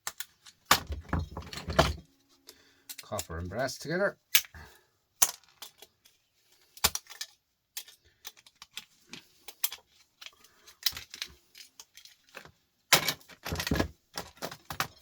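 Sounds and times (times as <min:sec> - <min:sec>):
metal and plastic parts clicking: 0:00.0 - 0:02.1, 0:02.8 - 0:03.4, 0:05.2 - 0:15.0
parts clattering: 0:00.0 - 0:03.4, 0:04.3 - 0:15.0.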